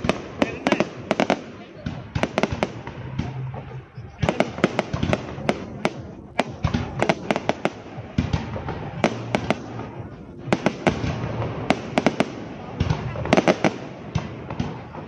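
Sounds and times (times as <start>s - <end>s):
fireworks hiss and crackle: 0.0s - 15.0s.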